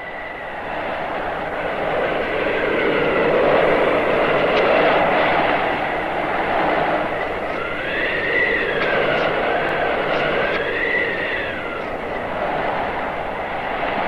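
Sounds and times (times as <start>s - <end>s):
gusting blizzard wind: 0.0s - 14.0s
thin whistling wind tones: 0.0s - 14.0s.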